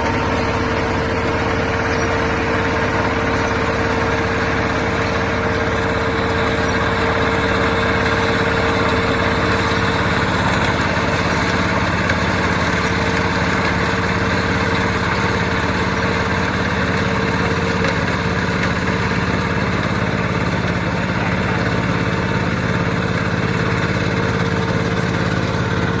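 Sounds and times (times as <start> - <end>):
constant whine: 0.0 - 26.0
harvester engine running: 0.0 - 26.0.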